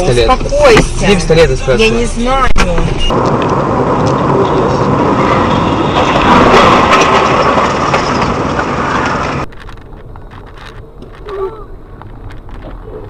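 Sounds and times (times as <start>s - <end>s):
vehicle and road noise: 0.0s - 13.0s.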